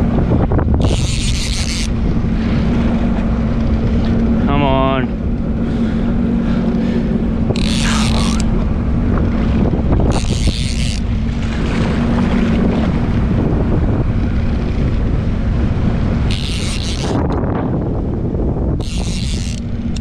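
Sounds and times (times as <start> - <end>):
jetski engine running: 0.0 - 20.0
wind buffeting microphone: 0.0 - 20.0.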